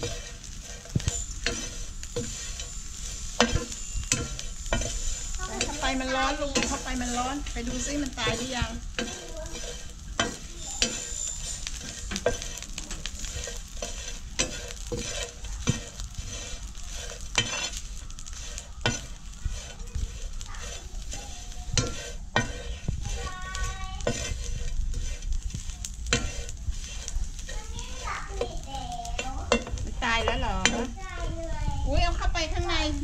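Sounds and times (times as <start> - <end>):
metal ladle scraping a pan: 0.0 - 31.0
sizzling in a hot pan: 0.0 - 33.0.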